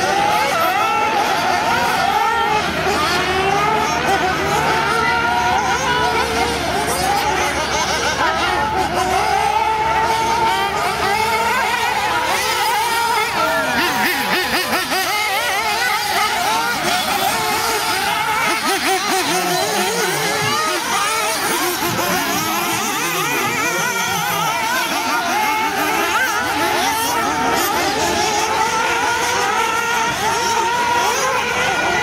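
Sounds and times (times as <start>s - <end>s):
rc car engines revving: 0.0s - 32.0s.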